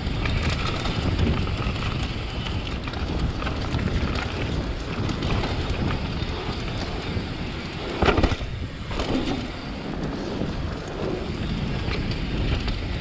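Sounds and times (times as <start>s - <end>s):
bike rattling: 0.0s - 13.0s
bike tyres on dirt: 0.0s - 13.0s
wind on microphone: 0.0s - 13.0s.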